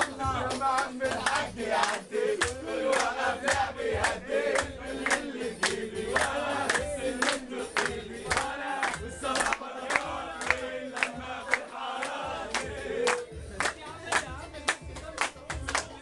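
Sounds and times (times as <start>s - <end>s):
group singing: 0.0s - 14.3s
group clapping in time: 0.0s - 16.0s.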